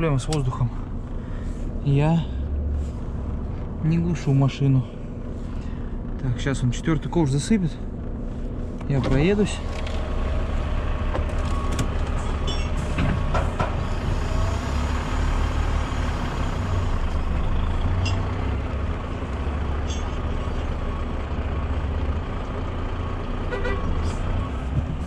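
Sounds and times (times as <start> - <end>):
truck engine droning: 0.0 - 25.0.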